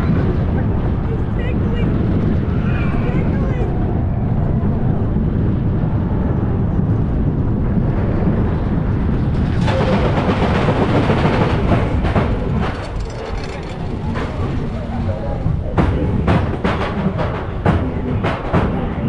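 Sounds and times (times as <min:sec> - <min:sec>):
roller coaster train rolling: 0:00.0 - 0:19.0
wind rumble on microphone: 0:00.0 - 0:19.0.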